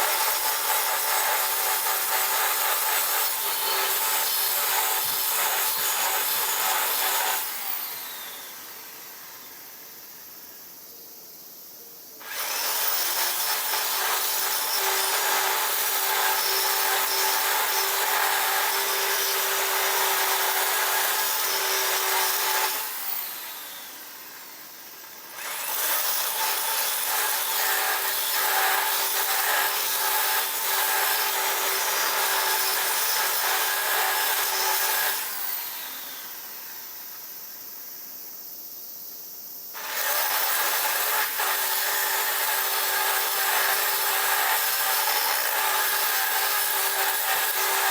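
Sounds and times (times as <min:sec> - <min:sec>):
power tool grinding: 0:00.0 - 0:09.4, 0:12.2 - 0:36.6, 0:39.8 - 0:47.9.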